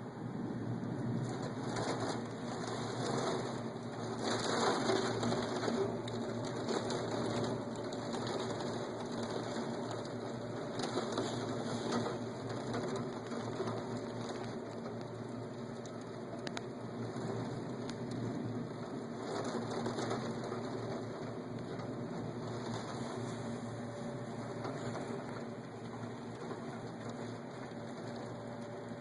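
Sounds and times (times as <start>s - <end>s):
low steady hum: 0.0s - 29.0s
rain pattering: 0.0s - 29.0s.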